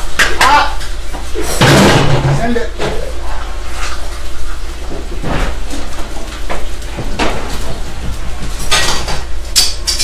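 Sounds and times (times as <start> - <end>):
pans and plates clanking: 0.1 - 4.1, 4.9 - 10.0.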